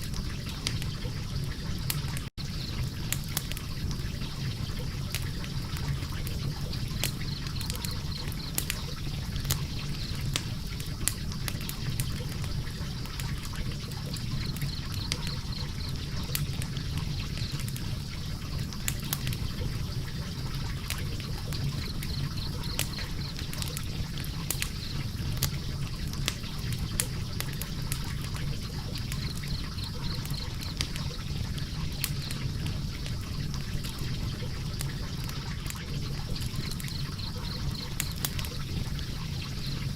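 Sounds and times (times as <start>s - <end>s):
logs burning in fireplace: 0.0s - 39.9s.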